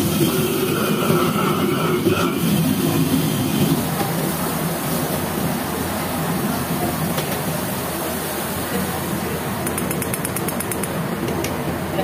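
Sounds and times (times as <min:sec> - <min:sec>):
gas burner roaring: 0:00.0 - 0:11.8.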